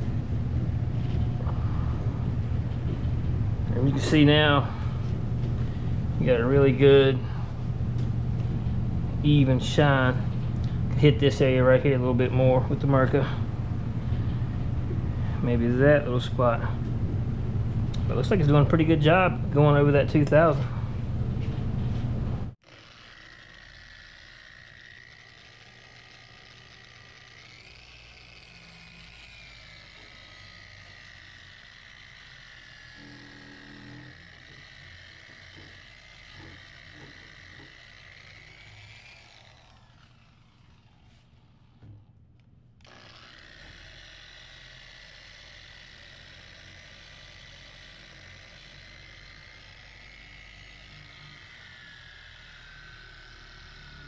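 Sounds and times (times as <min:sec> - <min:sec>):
electric sander whining: 0:00.0 - 0:21.5, 0:22.6 - 0:54.0.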